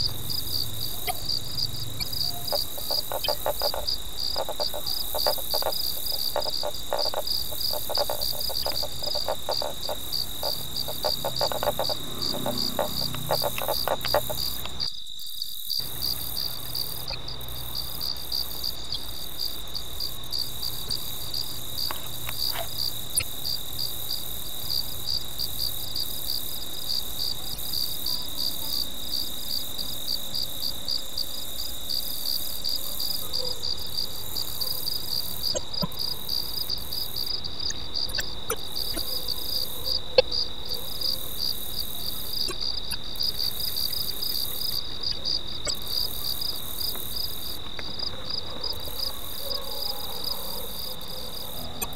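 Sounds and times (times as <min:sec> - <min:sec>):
crickets trilling and chirping: 0:00.0 - 0:51.9
low rapidly pulsing insect call: 0:00.0 - 0:51.9.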